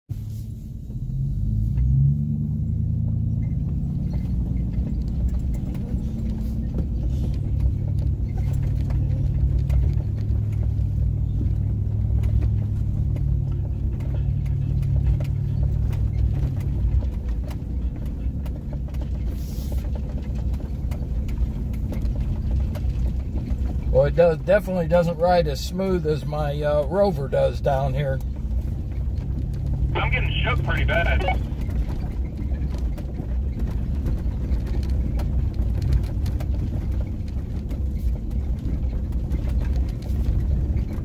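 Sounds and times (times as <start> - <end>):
truck engine and tyre rumble: 0.1 - 41.0
knocks and rattles over bumps: 1.8 - 41.0.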